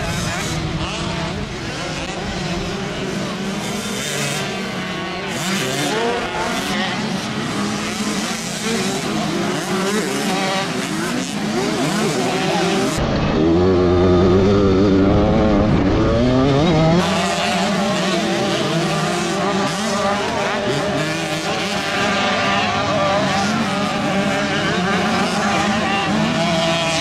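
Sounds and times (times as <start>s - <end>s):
dirt bike engines racing: 0.0s - 27.0s.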